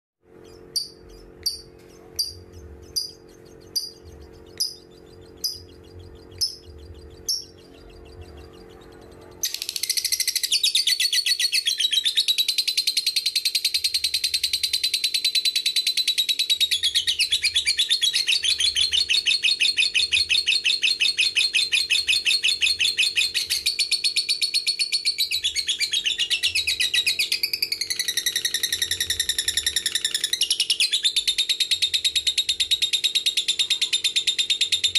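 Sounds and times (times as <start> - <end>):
faint hum: 0.2 - 34.9
lovebird chirping and trilling: 0.3 - 34.9.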